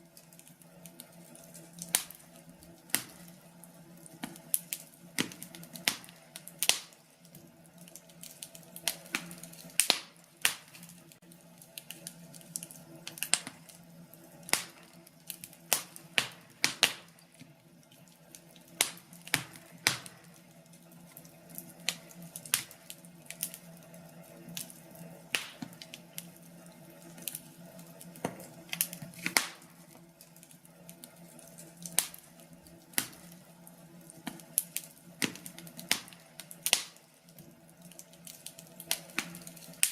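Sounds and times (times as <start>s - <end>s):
faint steady hum: 0.0s - 39.9s
fireplace fire crackling: 0.0s - 39.9s.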